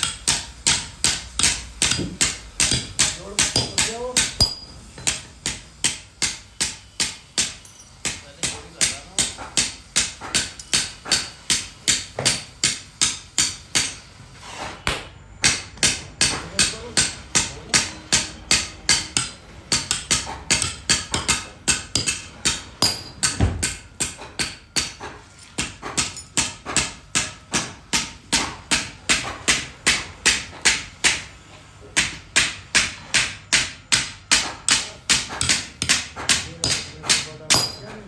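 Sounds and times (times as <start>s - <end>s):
hammer striking steel: 0.0s - 14.2s, 14.8s - 31.4s, 32.0s - 38.0s.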